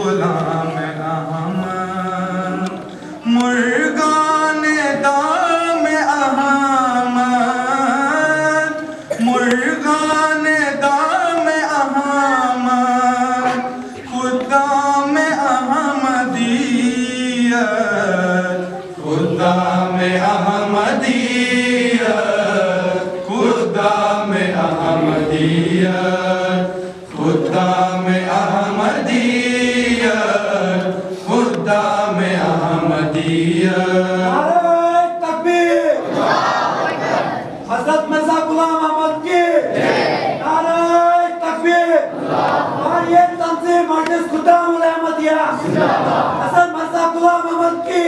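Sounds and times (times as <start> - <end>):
young men singing in unison: 0.0 - 38.0, 38.6 - 48.0.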